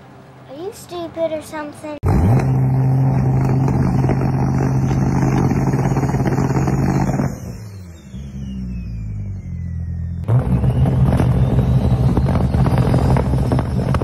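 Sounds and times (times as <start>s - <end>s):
car engine revving: 2.0s - 14.0s.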